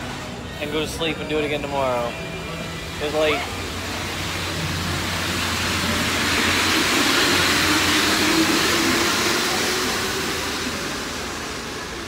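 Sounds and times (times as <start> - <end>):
metro train pulling out: 0.0 - 12.0.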